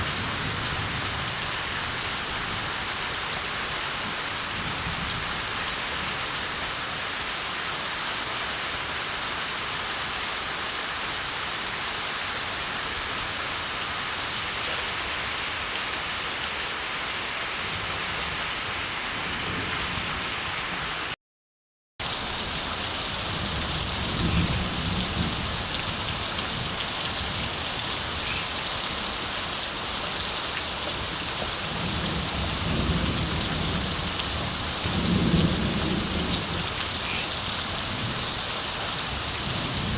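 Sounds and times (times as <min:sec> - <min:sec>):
rain falling: 0:00.0 - 0:21.2, 0:22.0 - 0:39.9.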